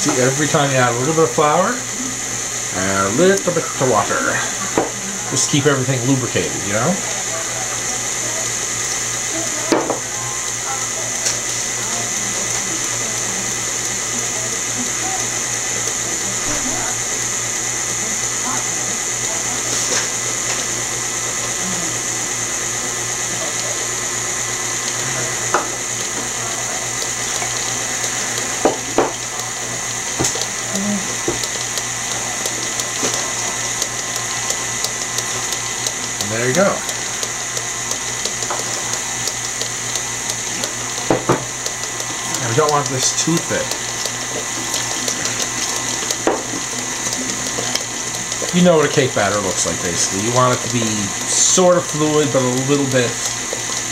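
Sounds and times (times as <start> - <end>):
stand mixer motor hum: 0.0 - 53.9.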